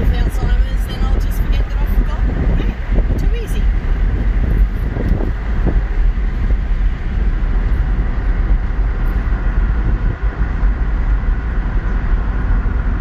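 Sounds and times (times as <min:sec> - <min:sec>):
vehicle driving from inside cab: 0:00.0 - 0:13.0.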